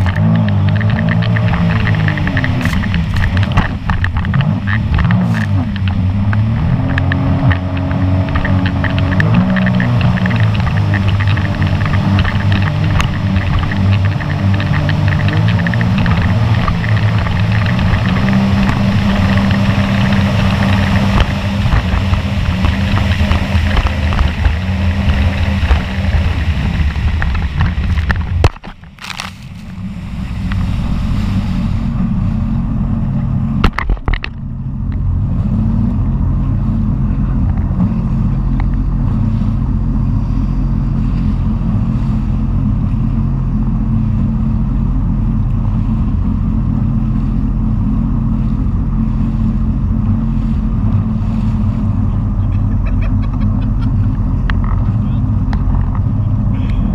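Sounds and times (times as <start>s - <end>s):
water rushing and spray: 0.0s - 56.9s
watercraft engine hum: 0.0s - 56.9s
wind: 0.0s - 56.9s.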